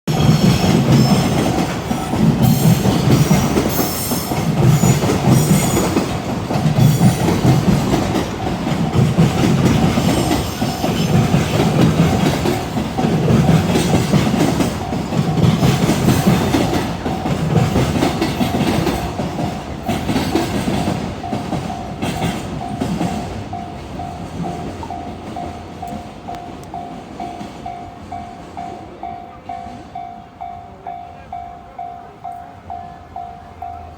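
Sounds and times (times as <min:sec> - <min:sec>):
train wheels clattering on rails: 0:00.1 - 0:31.6
level crossing warning bell: 0:00.1 - 0:33.9.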